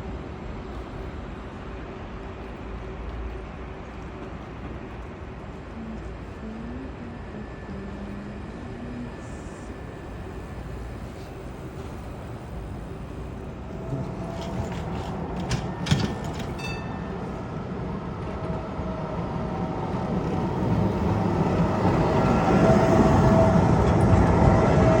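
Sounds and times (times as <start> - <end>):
tram rolling: 0.0 - 25.0.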